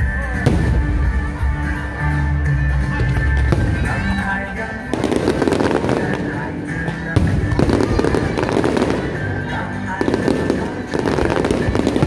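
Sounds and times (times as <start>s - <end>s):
fireworks bursting and crackling: 0.2s - 2.2s, 2.9s - 12.0s.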